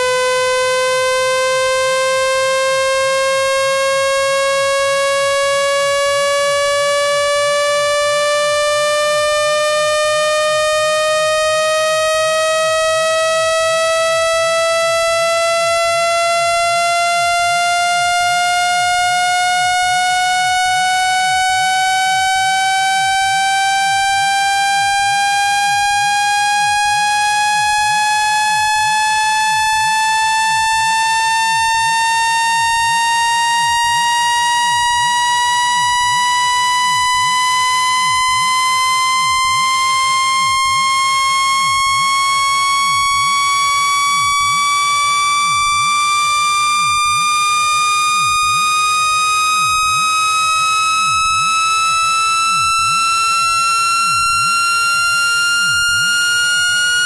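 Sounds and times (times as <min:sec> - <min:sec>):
buzzy rising electronic tone: 0:00.0 - 0:57.0.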